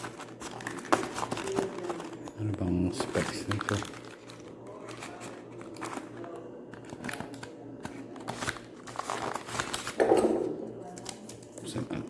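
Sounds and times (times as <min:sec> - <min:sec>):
packaging clicks and rustles: 0:00.0 - 0:10.0, 0:10.8 - 0:11.8.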